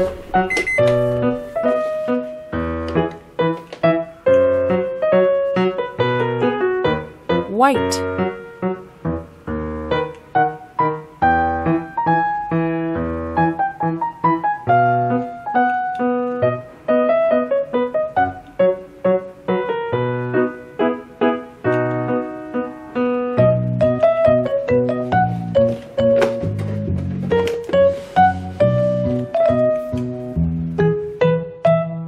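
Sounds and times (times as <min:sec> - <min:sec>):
piano-style keyboard music: 0:00.0 - 0:32.0.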